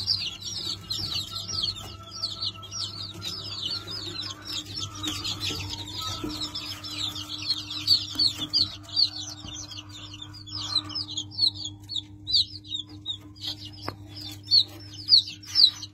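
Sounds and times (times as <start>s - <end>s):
chicks peeping: 0.0s - 15.9s
steady low hum: 0.0s - 15.9s.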